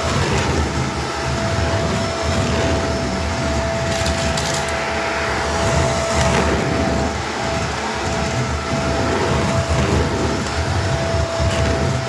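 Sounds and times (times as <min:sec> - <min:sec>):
grit crackling in vacuum: 0:00.0 - 0:12.0
vacuum cleaner motor whine: 0:00.0 - 0:12.0.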